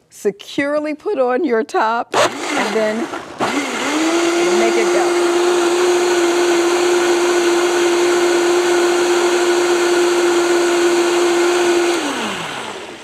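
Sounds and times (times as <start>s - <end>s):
blender running: 2.1s - 13.0s.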